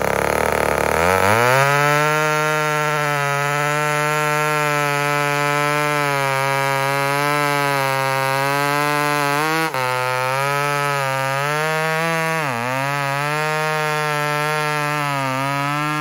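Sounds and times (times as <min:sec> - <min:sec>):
chainsaw cutting hard wood: 0:00.0 - 0:16.0.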